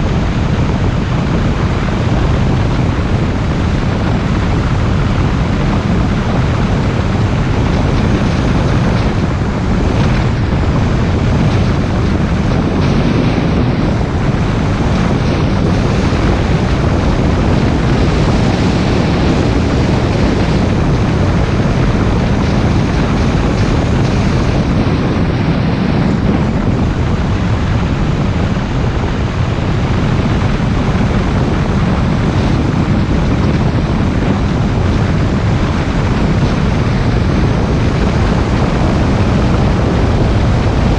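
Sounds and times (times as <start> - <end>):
tyre and road noise: 0.0 - 40.9
wind noise on microphone: 0.0 - 40.9.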